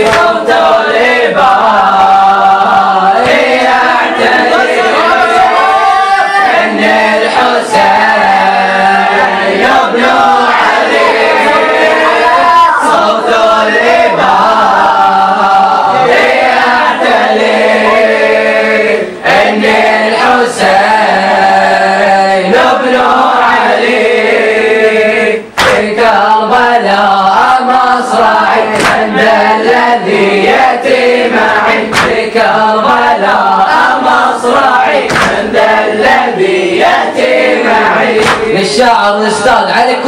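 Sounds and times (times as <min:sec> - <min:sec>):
boys chanting together: 0:00.0 - 0:40.0.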